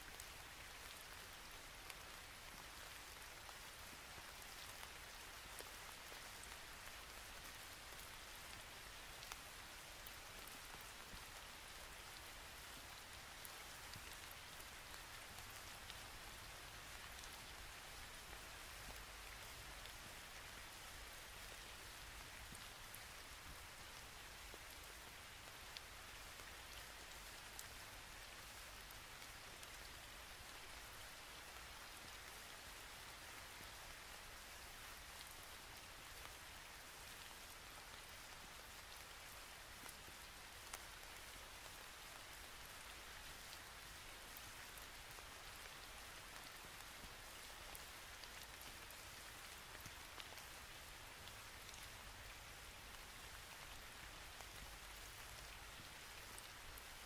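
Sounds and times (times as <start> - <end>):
faint hiss: 0.0 - 57.0.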